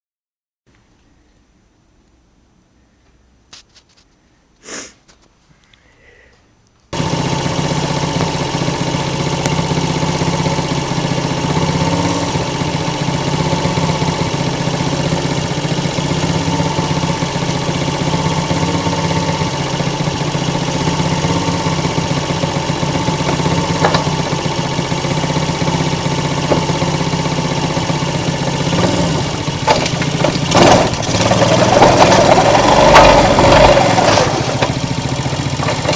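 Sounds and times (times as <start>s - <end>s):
small engine idling: 6.9s - 35.9s.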